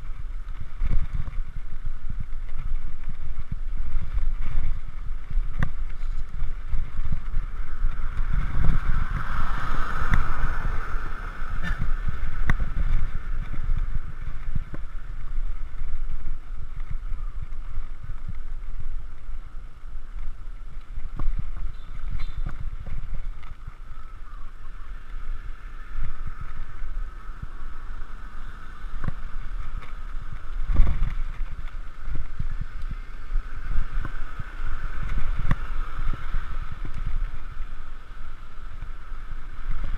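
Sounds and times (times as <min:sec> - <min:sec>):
bicycle knocking and rattling: 0:00.0 - 0:39.9
wind on microphone: 0:00.0 - 0:39.9.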